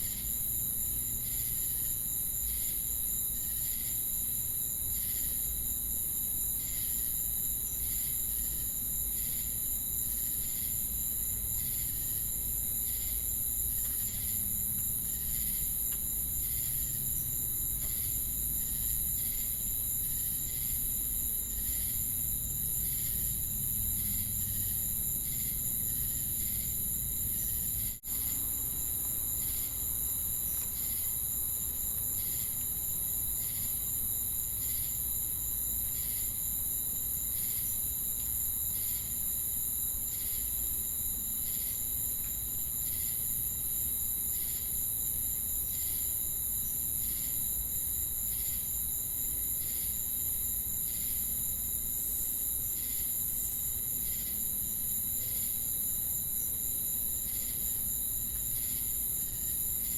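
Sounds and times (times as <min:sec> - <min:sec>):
crickets and cicadas drone: 0:00.0 - 0:59.9
insect chirps: 0:00.0 - 0:59.9.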